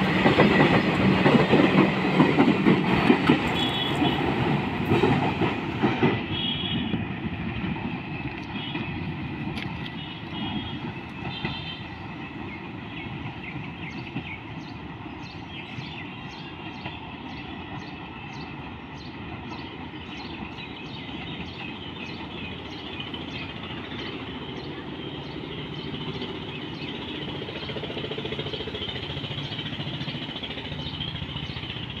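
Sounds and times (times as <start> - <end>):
freight train rumbling: 0.0 - 32.0.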